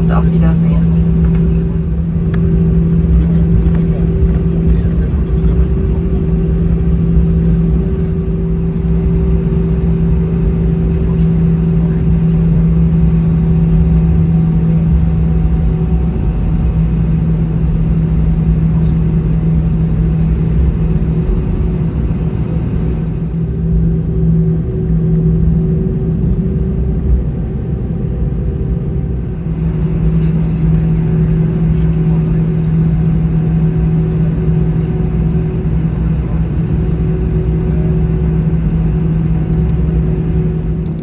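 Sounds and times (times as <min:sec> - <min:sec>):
constant low hum: 0:00.0 - 0:41.0
jet engines idling: 0:00.0 - 0:41.0.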